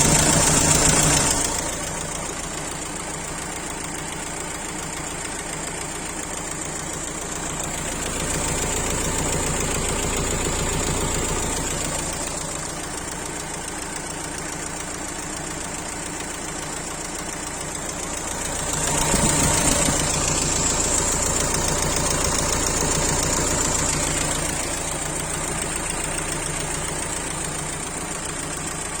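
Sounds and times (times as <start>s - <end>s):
diesel engine knocking: 0.0s - 29.0s.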